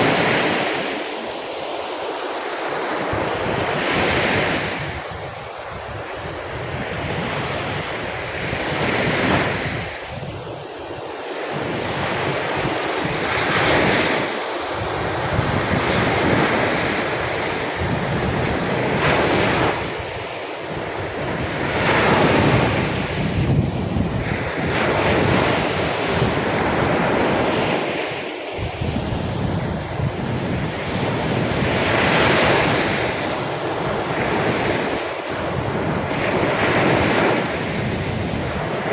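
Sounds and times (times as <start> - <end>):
surf breaking on a beach: 0.0 - 38.9
wind buffeting microphone: 2.8 - 38.9.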